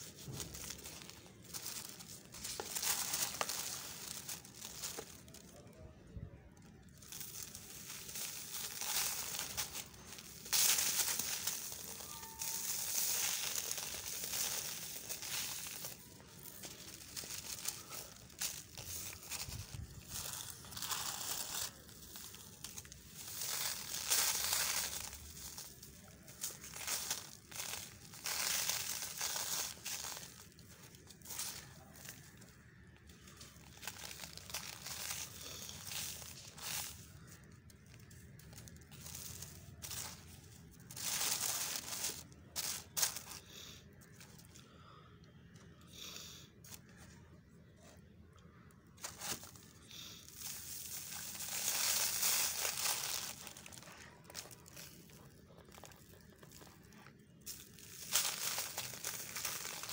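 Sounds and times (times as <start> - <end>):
sand mix crumbling and trickling: 0.0 - 44.5, 49.0 - 59.9.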